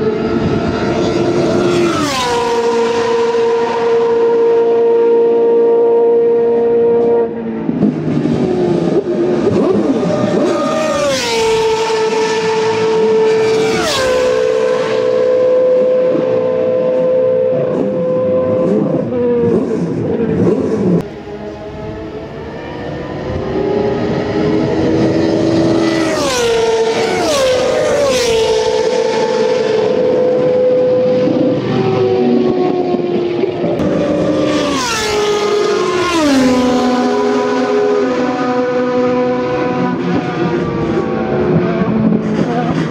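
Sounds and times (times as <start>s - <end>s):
racing car engines at high revs: 0.0s - 42.9s.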